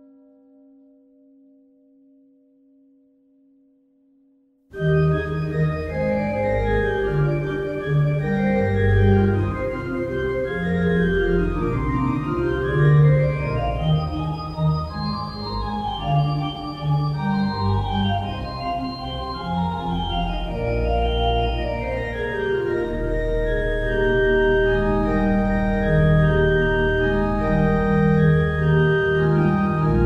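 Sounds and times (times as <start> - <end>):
organ music: 4.8 - 30.0.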